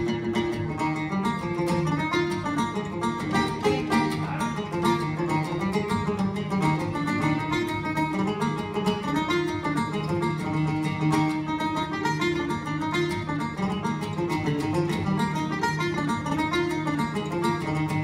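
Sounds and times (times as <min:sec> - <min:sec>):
acoustic guitar accompaniment: 0:00.0 - 0:18.0
banjo picking fast tune: 0:00.0 - 0:18.0.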